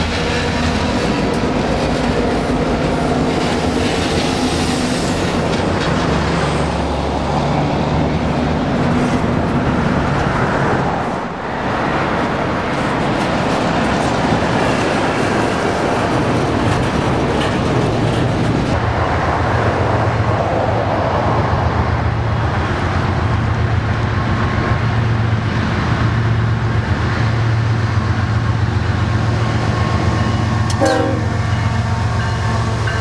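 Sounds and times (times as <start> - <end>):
train wheels clattering on rail: 0.0 - 10.8, 11.9 - 21.6, 22.4 - 33.0
diesel locomotive engines humming: 0.0 - 33.0.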